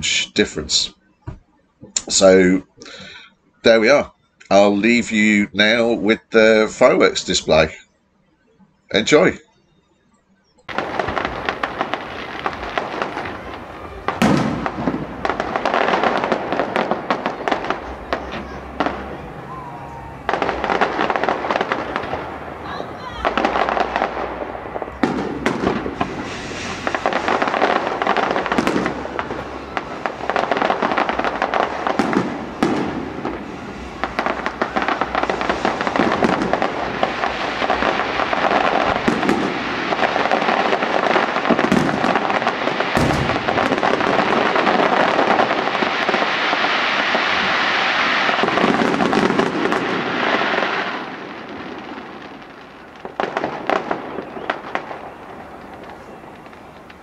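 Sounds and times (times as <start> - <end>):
fireworks bangs and crackling: 0.0 - 1.0, 1.9 - 7.7, 10.7 - 57.0.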